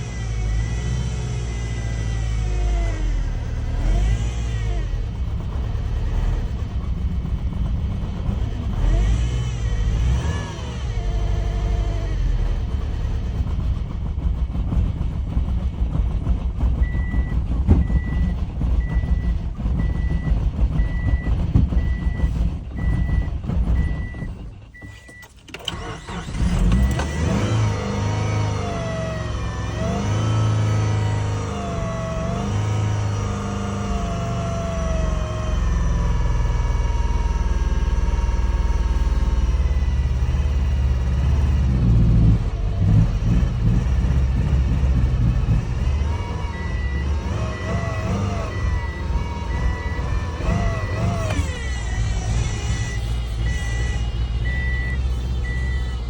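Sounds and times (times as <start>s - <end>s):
car engine running rough: 0.0s - 56.0s.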